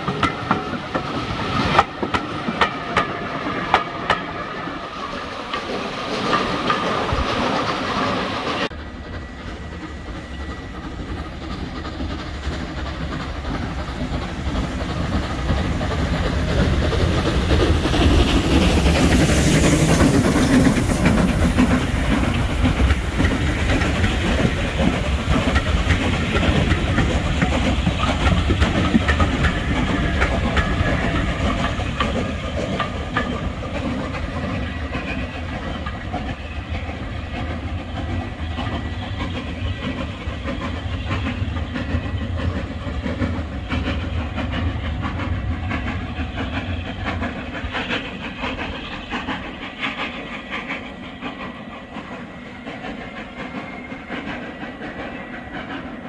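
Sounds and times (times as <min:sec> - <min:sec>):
steam hissing: 0:00.0 - 0:56.0
train wheels clattering: 0:00.0 - 0:56.0.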